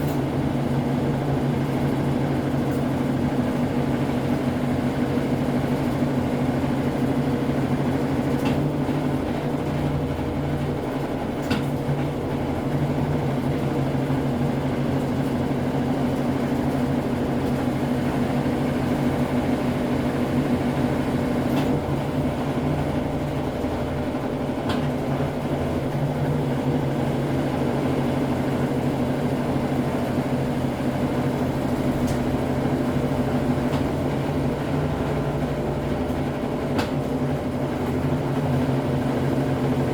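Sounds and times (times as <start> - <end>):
washing machine spinning hum: 0.0 - 39.9.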